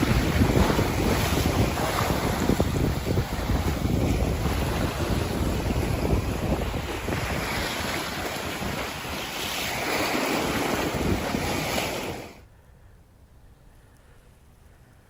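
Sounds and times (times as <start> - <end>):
wind buffeting microphone: 0.0 - 12.4
waves washing: 0.0 - 12.5.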